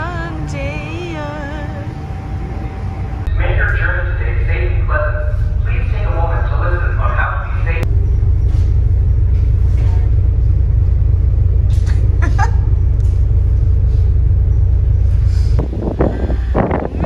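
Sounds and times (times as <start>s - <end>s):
ferry engine low rumble: 0.0s - 17.0s.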